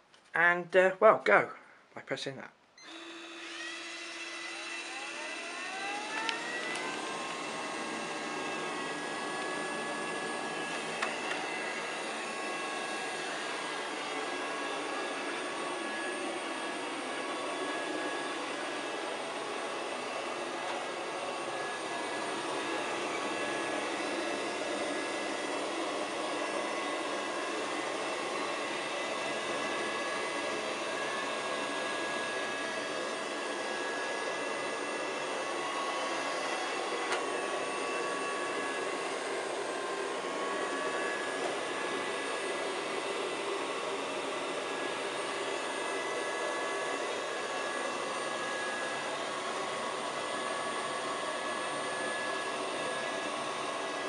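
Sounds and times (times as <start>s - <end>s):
robot vacuum running: 2.8s - 54.0s.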